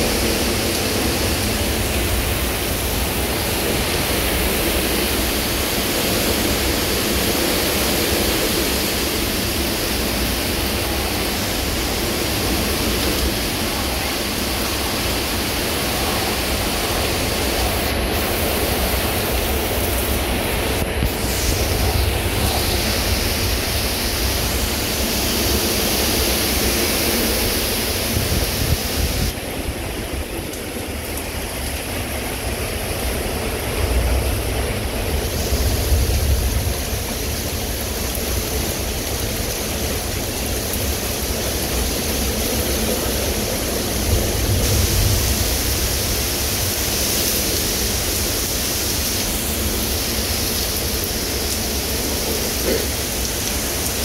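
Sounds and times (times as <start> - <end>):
heavy rain: 0.0 - 54.0
strong wind: 0.0 - 54.0.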